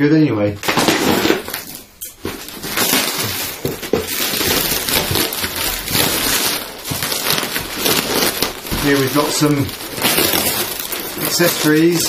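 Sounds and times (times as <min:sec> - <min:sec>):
packing tape ripping: 0:00.6 - 0:12.0
plastic wrapping rustling: 0:00.6 - 0:12.0.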